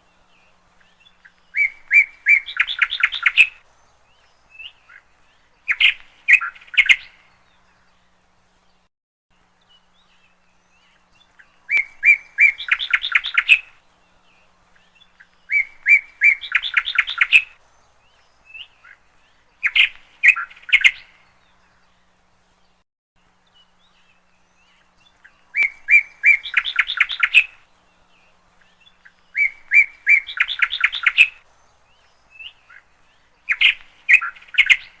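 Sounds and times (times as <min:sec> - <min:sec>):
bird chirping rising notes: 0:00.1 - 0:08.9, 0:09.6 - 0:35.0.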